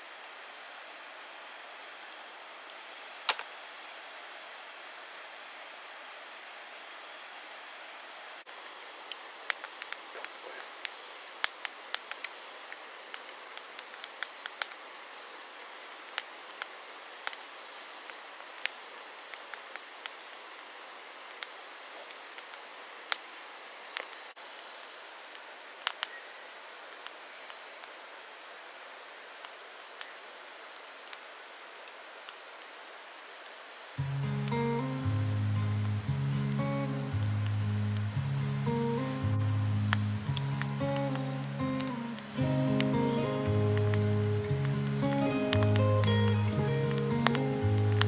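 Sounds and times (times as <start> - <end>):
steady hiss: 0.0 - 48.0
campfire crackling and popping: 2.1 - 3.6, 8.5 - 28.2, 29.2 - 48.0.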